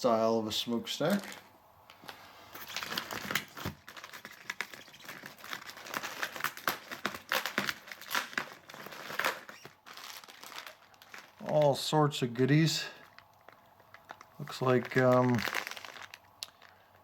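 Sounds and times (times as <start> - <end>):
packaging crinkling: 1.0 - 17.0.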